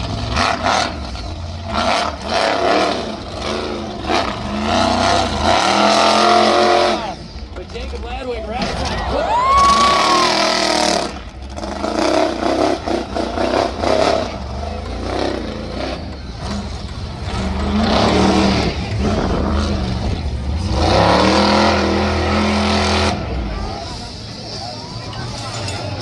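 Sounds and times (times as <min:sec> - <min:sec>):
clatter: 0:00.0 - 0:09.0, 0:10.6 - 0:24.1, 0:24.9 - 0:26.0
monster truck engine revving: 0:00.0 - 0:26.0.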